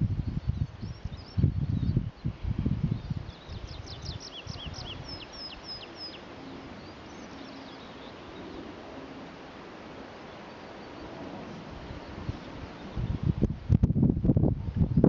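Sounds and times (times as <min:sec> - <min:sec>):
songbird chirping: 0:00.0 - 0:13.4
outdoor background hiss: 0:00.0 - 0:15.0.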